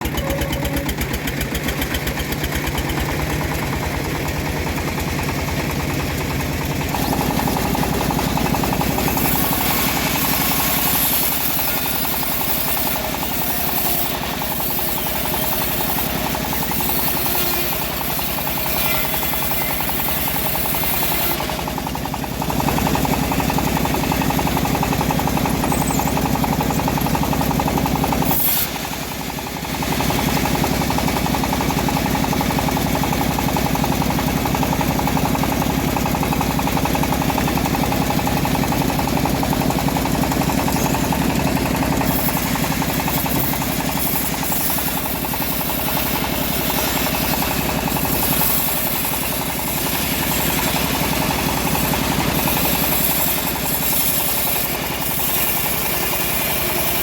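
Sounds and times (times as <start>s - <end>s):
engine-driven bandsaw mill knocking: 0.0s - 57.0s.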